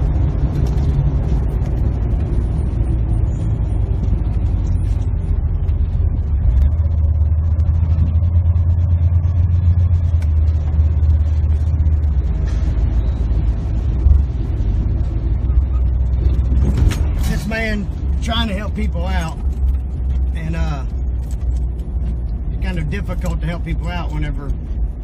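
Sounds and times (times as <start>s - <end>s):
vehicle engine and road drone: 0.0s - 25.0s.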